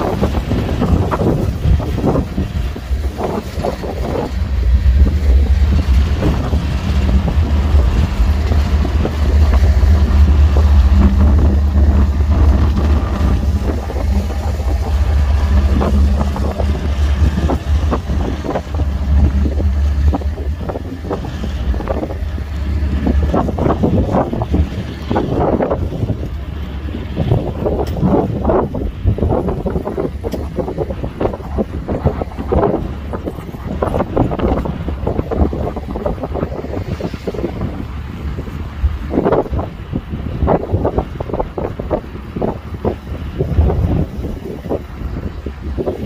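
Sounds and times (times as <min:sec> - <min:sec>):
diesel train engine drone: 0:00.0 - 0:46.0
gusty thumps: 0:00.0 - 0:46.0.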